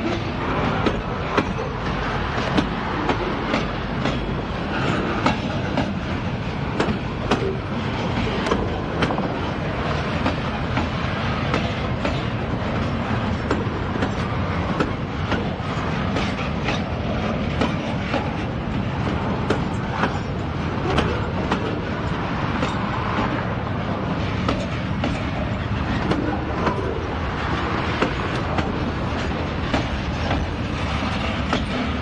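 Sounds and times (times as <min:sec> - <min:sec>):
freight train cars rumbling: 0:00.0 - 0:32.0.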